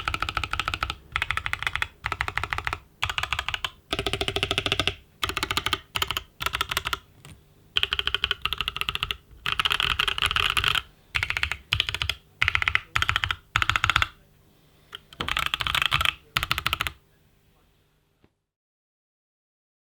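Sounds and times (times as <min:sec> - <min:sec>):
mechanical keyboard typing: 0:00.0 - 0:14.2, 0:14.9 - 0:17.0.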